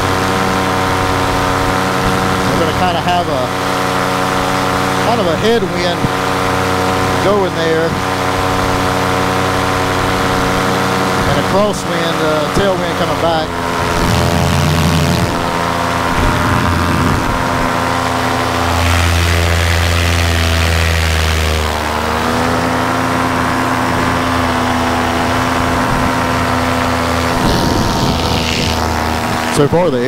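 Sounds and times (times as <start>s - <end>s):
paramotor engine and propeller: 0.0s - 30.0s.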